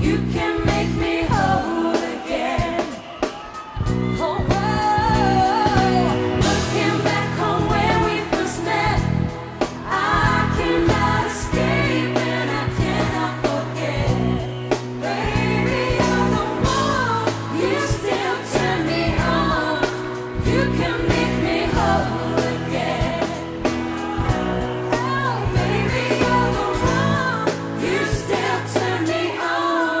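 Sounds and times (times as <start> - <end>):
female vocal group singing: 0.0 - 3.3, 4.2 - 30.0
backing band playing pop ballad: 0.0 - 30.0.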